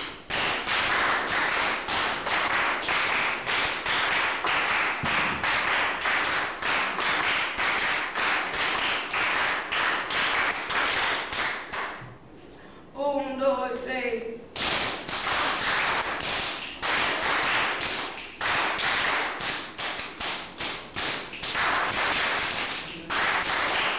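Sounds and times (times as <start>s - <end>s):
hands clapping and slapping: 0.0s - 12.1s, 14.5s - 23.9s.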